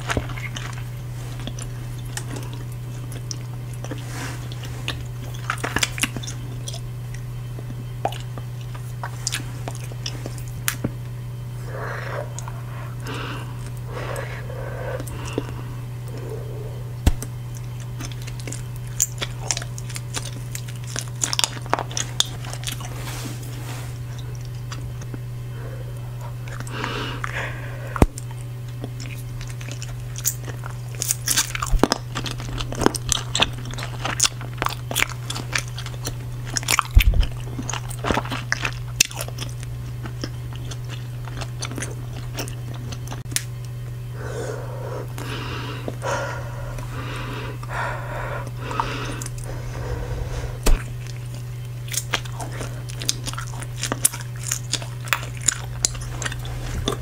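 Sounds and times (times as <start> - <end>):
gum chewing and mouth smacking: 0.0 - 57.0
steady low hum: 0.0 - 57.0.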